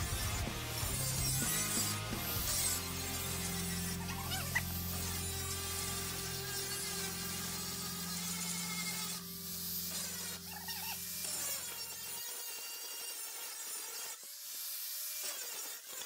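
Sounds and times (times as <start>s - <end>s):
angle grinder motor hum: 0.0s - 16.0s
grinding disc hissing on metal: 0.0s - 16.0s.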